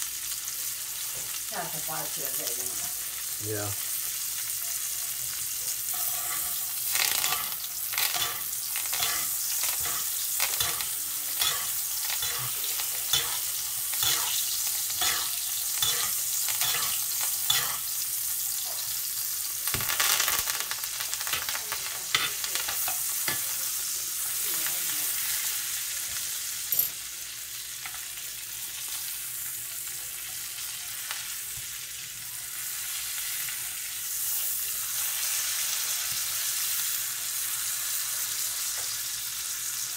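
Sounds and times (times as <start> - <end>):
butter sizzling in a skillet: 0.0 - 39.9.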